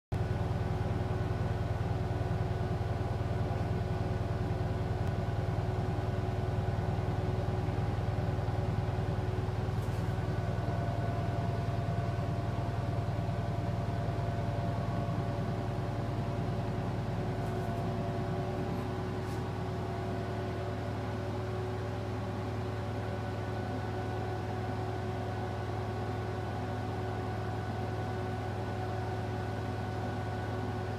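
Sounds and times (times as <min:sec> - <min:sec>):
woofers droning low: 0:00.2 - 0:27.8
amplifier cooling fan whirring: 0:00.2 - 0:30.9.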